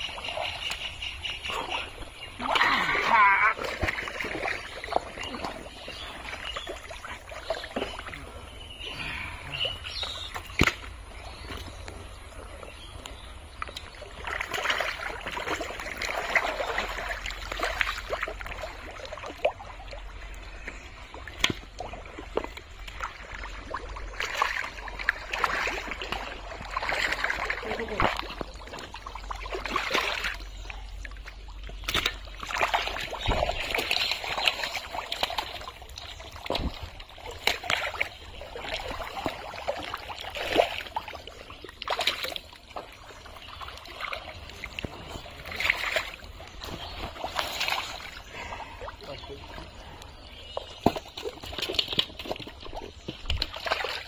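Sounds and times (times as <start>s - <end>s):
wet splashes: 0.0s - 11.5s, 13.6s - 50.0s, 50.6s - 54.0s.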